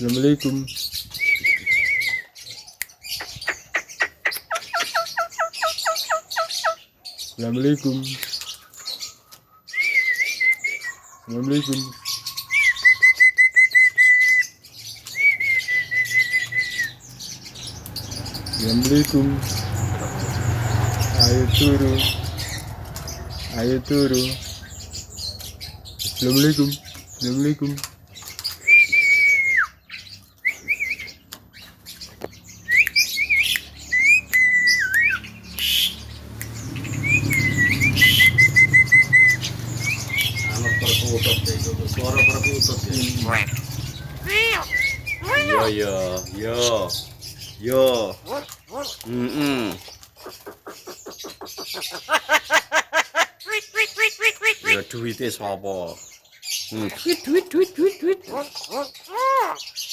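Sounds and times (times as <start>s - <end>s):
myna chirping: 0.0s - 59.9s.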